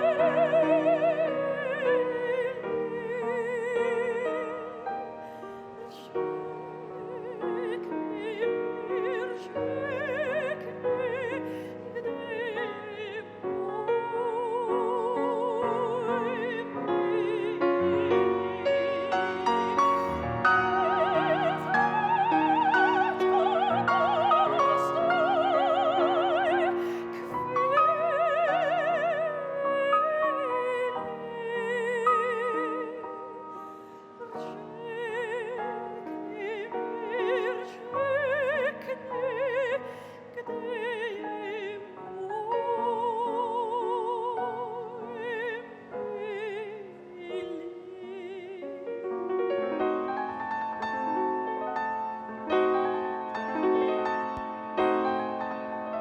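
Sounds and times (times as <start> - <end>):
operatic singing with vibrato: 0.0 - 48.9
piano accompaniment: 0.0 - 56.0.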